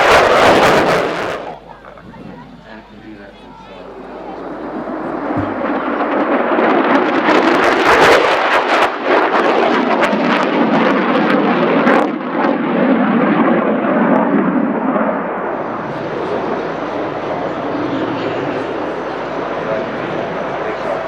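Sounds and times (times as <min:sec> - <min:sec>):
jet engine passing loud: 0:00.0 - 0:21.0.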